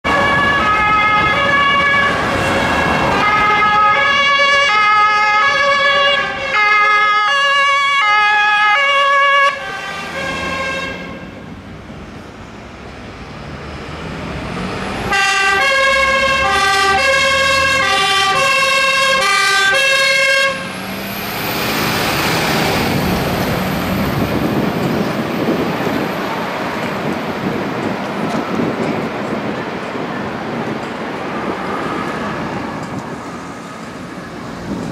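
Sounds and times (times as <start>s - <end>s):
two-tone fire truck sirens: 0.0s - 11.5s, 12.6s - 34.9s
fire truck engine: 0.0s - 34.9s
road noise: 0.0s - 34.9s.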